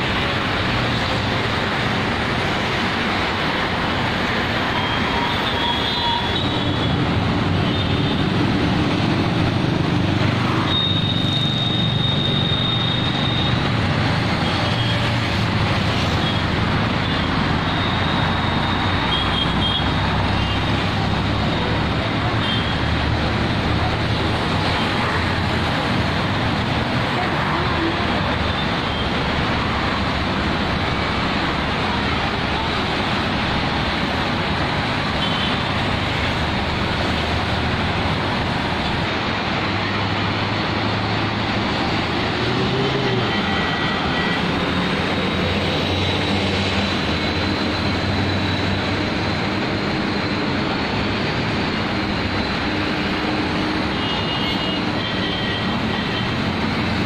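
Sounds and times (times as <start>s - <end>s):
highway traffic noise: 0.0s - 57.0s.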